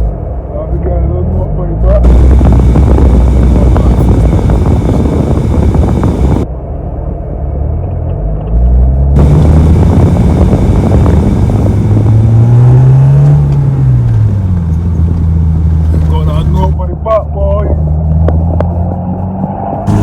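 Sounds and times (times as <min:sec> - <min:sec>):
car engine revving: 0:01.6 - 0:06.5, 0:08.5 - 0:20.0.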